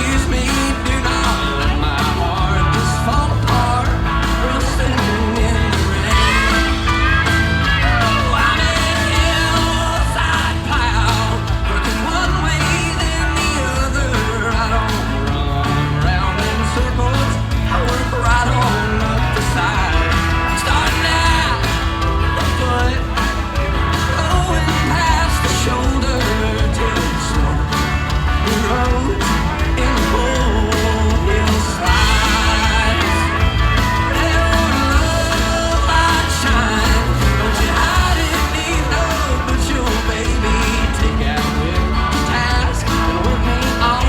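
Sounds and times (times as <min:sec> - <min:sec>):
live country-rock band: 0:00.0 - 0:44.0
man singing: 0:00.0 - 0:44.0.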